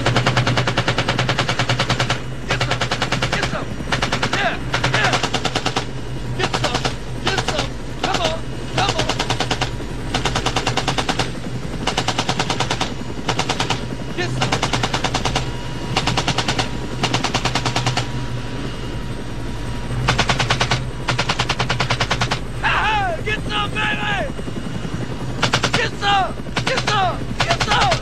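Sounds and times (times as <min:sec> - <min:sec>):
machine gun firing bursts: 0:00.0 - 0:18.1, 0:20.0 - 0:22.5, 0:25.4 - 0:28.0.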